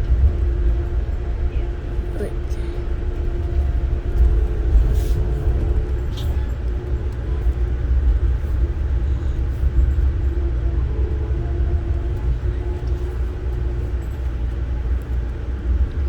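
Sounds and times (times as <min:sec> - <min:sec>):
train car rumble on track: 0:00.0 - 0:16.0.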